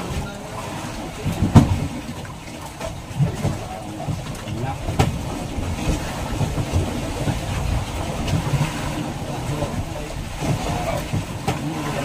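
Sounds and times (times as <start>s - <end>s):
boat engine rumbling: 0.0s - 12.0s
water noise: 0.0s - 12.0s
wind: 0.0s - 12.0s.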